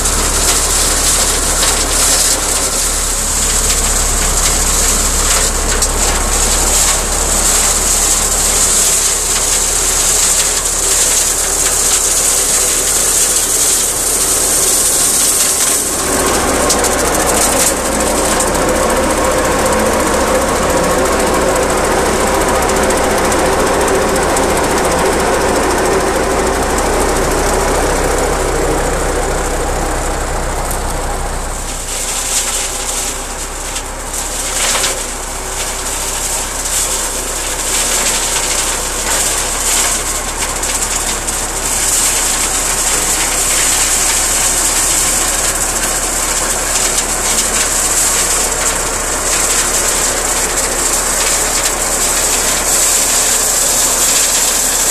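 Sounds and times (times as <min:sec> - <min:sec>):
flail hedge cutter shredding brambles: 0:00.0 - 0:54.9
tractor diesel engine under load: 0:00.0 - 0:54.9.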